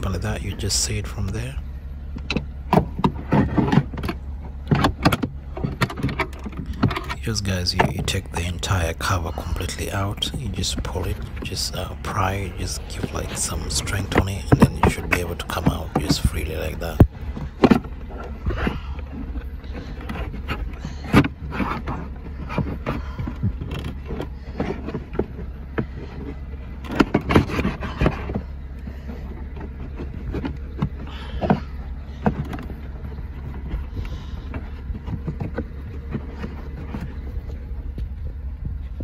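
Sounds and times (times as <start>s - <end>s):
steady low hum: 0.0s - 39.0s
plastic trim scraping and knocking: 2.2s - 38.2s.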